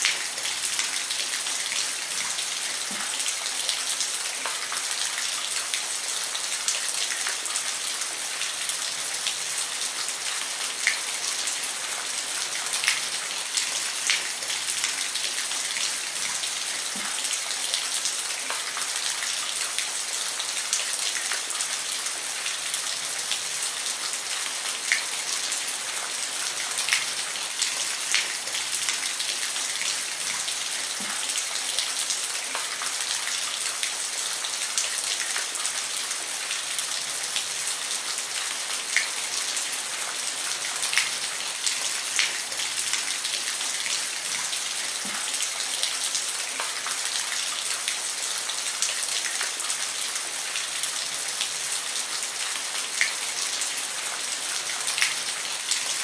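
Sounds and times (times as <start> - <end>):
rain falling on a roof: 0.0 - 56.0.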